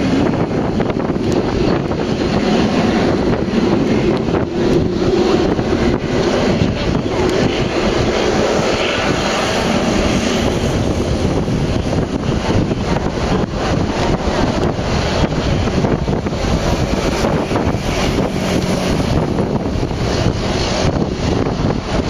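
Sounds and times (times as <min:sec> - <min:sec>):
jet engines at takeoff power: 0:00.0 - 0:22.0
wind buffeting microphone: 0:00.0 - 0:22.0.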